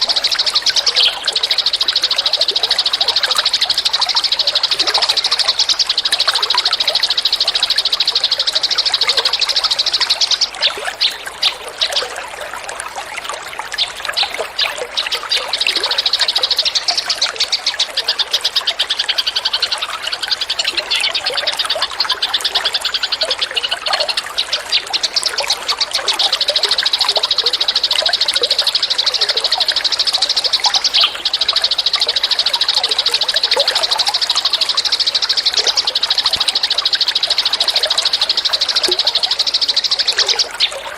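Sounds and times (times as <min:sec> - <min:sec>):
songbird buzzy trill: 0:00.0 - 0:40.9.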